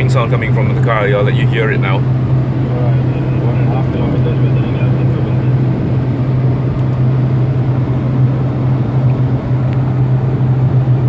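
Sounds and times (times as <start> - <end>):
low hum in car cabin: 0.0 - 11.0
road and wind noise: 0.0 - 11.0.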